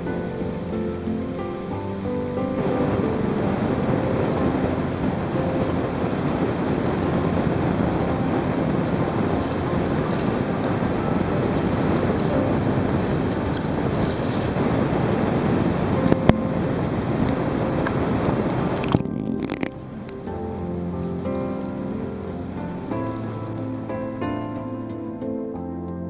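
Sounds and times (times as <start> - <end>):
water splashing hiss: 0.0 - 15.9, 16.8 - 23.8
waterfall rushing and churning: 0.0 - 23.9.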